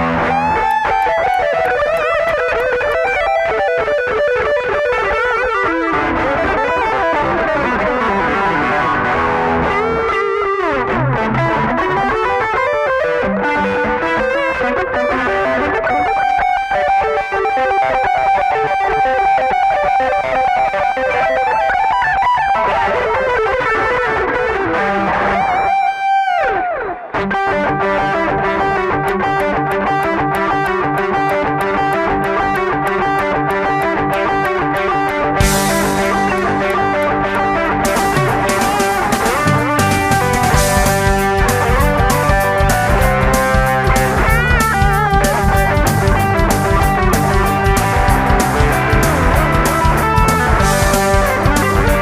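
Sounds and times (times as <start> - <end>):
electric guitar lead runs: 0.0 - 52.0.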